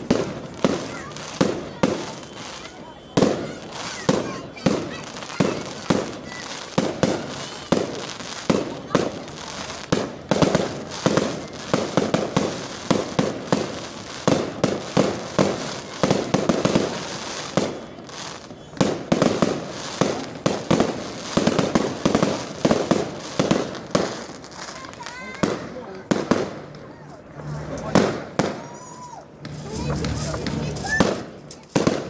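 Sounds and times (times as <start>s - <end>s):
fireworks barrage bangs: 0.0s - 32.0s.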